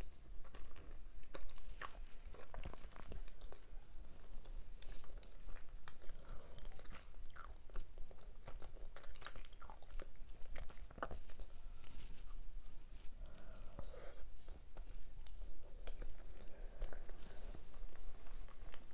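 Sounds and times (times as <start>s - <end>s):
person chewing food: 0.2s - 18.9s.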